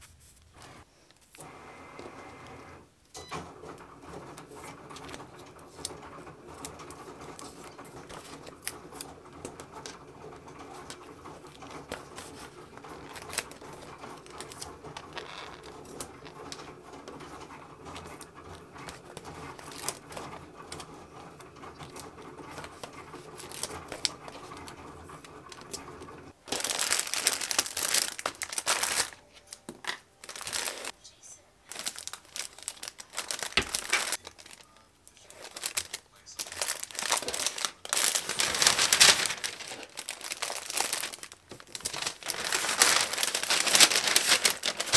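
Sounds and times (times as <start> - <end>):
plastic sleeve crinkling: 4.6 - 31.0, 31.6 - 44.9.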